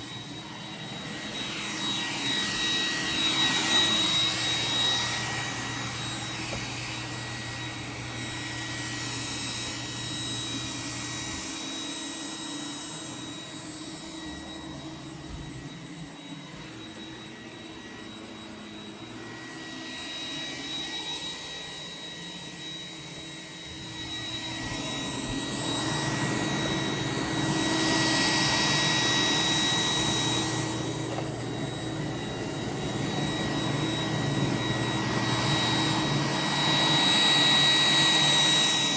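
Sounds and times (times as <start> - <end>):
robot vacuum fan whine: 0.0 - 38.9.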